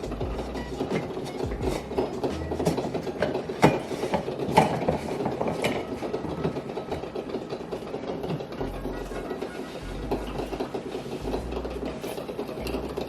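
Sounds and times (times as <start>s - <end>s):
mechanical rattling and clattering: 0.0s - 13.0s.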